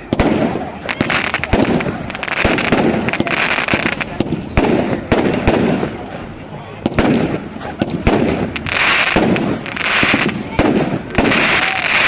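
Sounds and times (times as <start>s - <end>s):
fireworks bangs and pops: 0.0s - 6.2s, 6.8s - 12.0s
fireworks hissing crackle: 0.0s - 6.2s, 6.8s - 12.0s.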